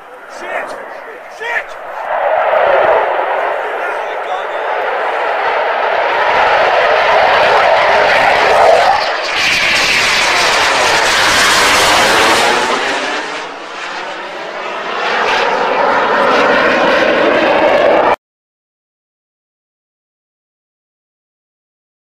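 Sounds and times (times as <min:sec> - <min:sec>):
fighter jet passing: 0:00.0 - 0:18.2.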